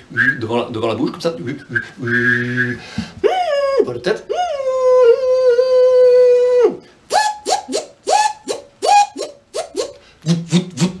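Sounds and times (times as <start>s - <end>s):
vocal held pitched tone: 1.6s - 11.0s.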